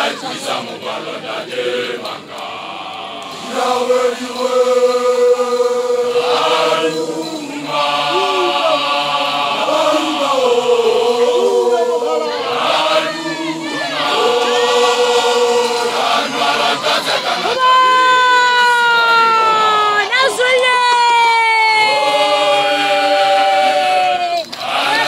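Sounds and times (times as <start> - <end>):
group of voices chanting: 0.0 - 19.3, 21.7 - 25.0.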